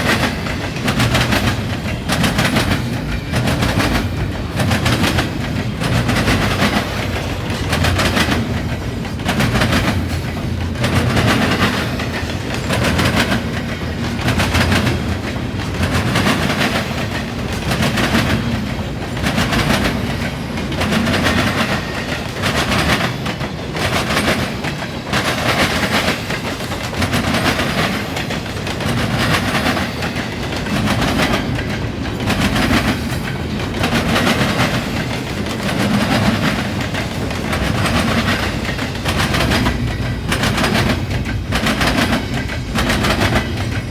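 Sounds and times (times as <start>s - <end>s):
train wheels clattering over crossing: 0.0s - 43.9s.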